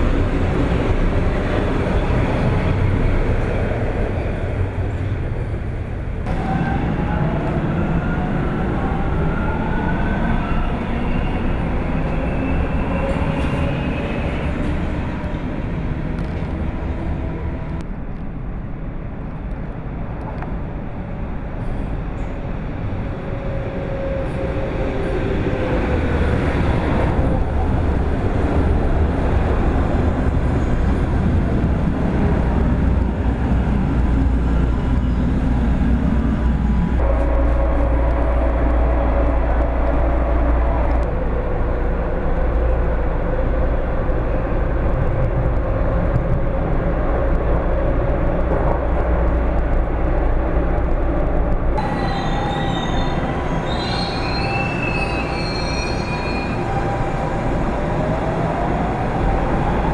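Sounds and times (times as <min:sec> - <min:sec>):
wheels rumbling on track: 0:00.0 - 0:59.9.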